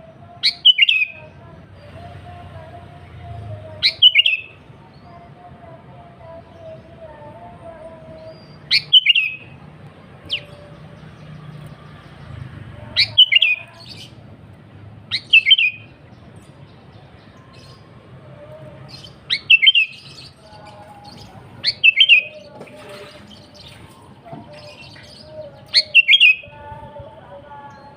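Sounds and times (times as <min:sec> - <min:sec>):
bulbul singing: 0:00.0 - 0:14.2, 0:15.0 - 0:27.9.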